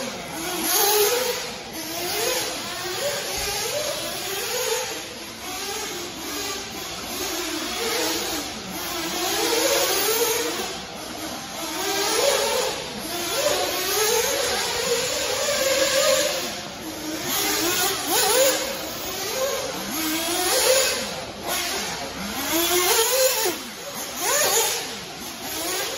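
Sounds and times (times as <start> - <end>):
radio-controlled buggy motor: 0.0 - 25.9.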